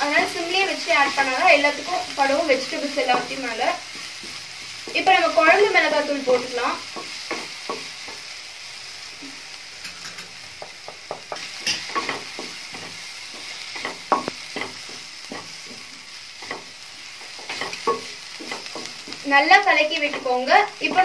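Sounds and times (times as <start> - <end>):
vegetables sizzling in oil: 0.0 - 21.0
spatula scraping and tapping pan: 2.3 - 8.3, 9.8 - 21.0.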